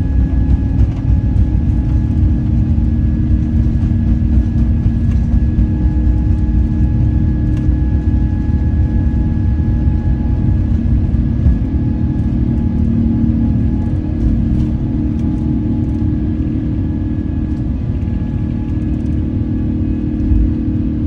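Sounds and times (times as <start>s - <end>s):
constant held tones: 0.0s - 21.0s
engine rumbling: 0.0s - 21.0s.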